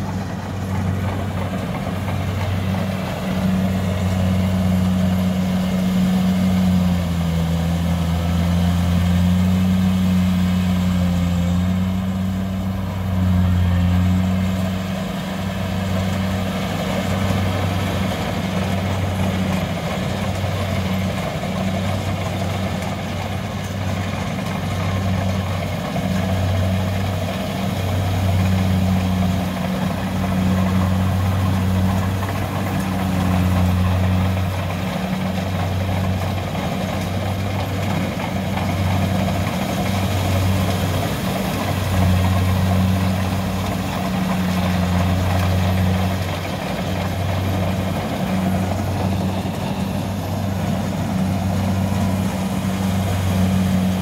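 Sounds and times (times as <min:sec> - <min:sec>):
combine harvester engine under load: 0:00.0 - 0:54.0.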